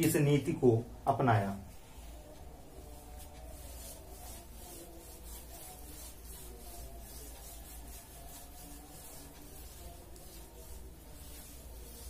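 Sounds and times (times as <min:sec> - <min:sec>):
rubbing on a whiteboard: 0:01.7 - 0:12.0.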